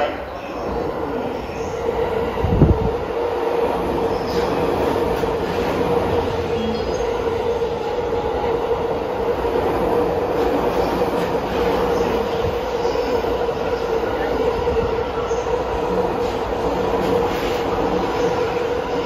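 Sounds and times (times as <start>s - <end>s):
steady train hum: 0.0s - 19.0s
train wheels running on rails: 0.0s - 19.0s.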